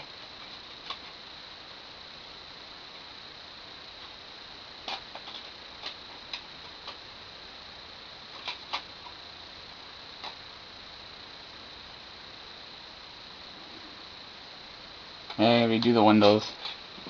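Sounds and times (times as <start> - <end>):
steady hiss: 0.0 - 17.0
thin high-pitched whine: 0.0 - 17.0.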